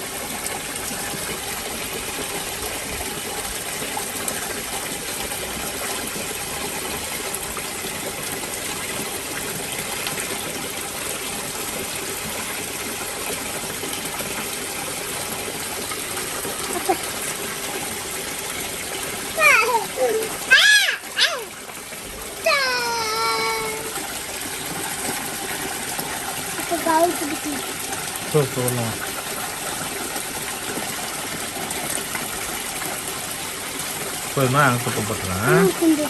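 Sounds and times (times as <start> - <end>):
running water rushing: 0.0 - 36.0.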